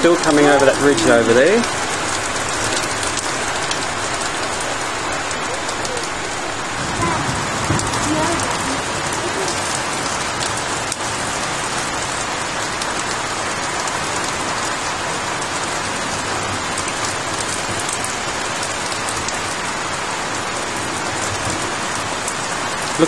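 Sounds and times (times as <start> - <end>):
heavy rain pelting down: 0.0 - 23.0.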